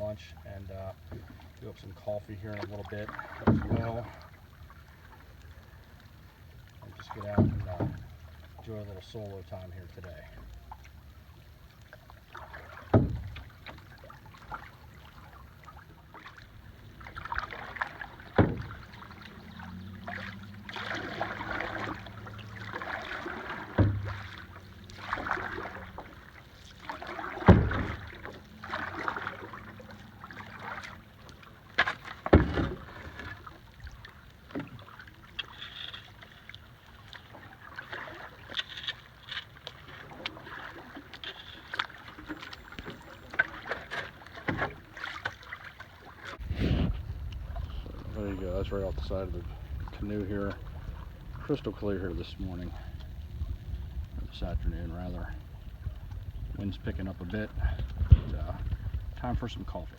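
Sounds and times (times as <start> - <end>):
water swishing off paddle: 0.0 - 59.9
paddle knocking against canoe: 0.9 - 5.4, 6.6 - 9.4, 10.2 - 59.9.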